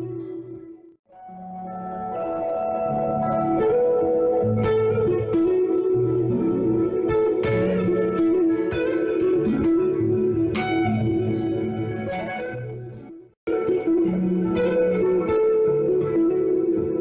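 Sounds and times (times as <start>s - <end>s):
electric guitar notes with delay: 0.0s - 17.0s.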